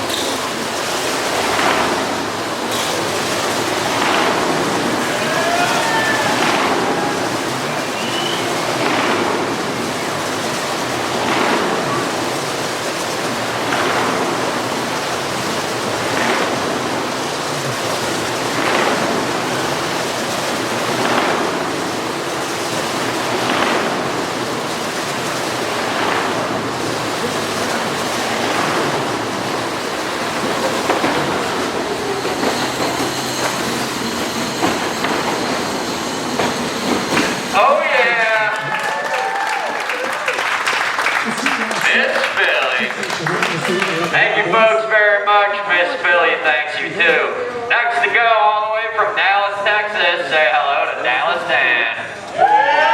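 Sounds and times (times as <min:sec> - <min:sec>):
go-kart engine running hard: 0:00.0 - 0:45.2.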